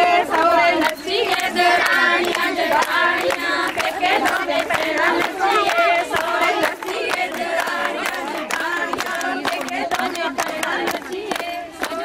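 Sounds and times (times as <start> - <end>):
rhythmic handclaps: 0.0 - 12.0
women singing together: 0.0 - 12.0.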